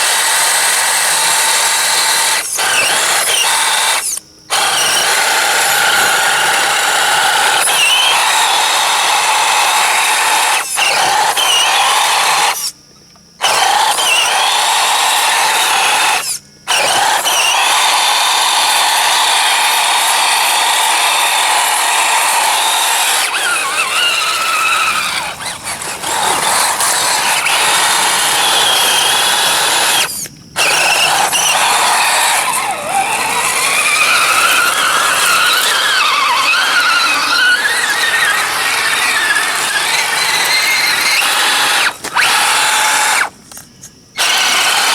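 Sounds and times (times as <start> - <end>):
toy truck electric motor whining: 0.0 - 44.9.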